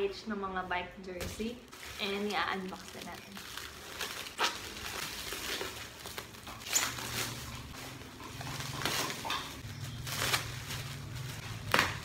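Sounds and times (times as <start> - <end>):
plastic package rustling: 1.4 - 12.0.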